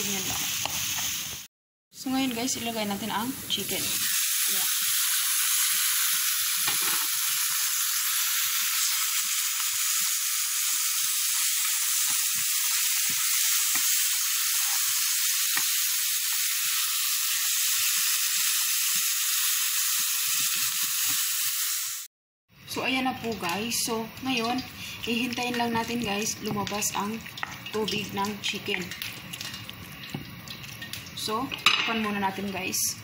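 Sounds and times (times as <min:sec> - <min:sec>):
chicken sizzling in hot oil: 0:00.0 - 0:22.1, 0:22.8 - 0:32.7.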